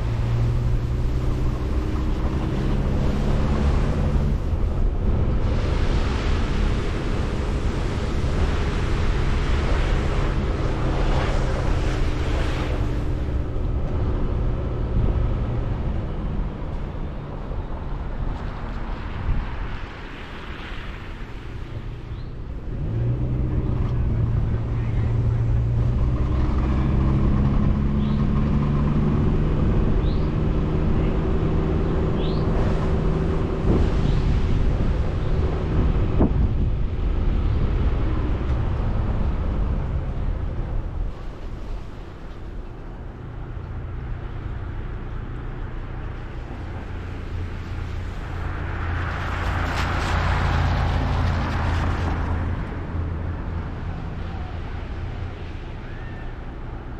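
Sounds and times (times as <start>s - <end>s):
tyre and road noise: 0.0s - 56.9s.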